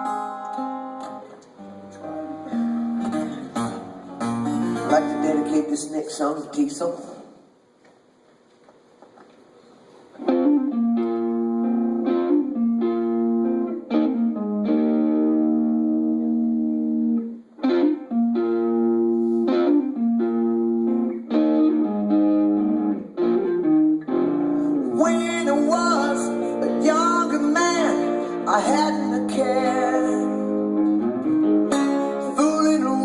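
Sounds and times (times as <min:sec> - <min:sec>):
guitar picking ringing notes: 0:00.0 - 0:05.8, 0:10.2 - 0:33.0.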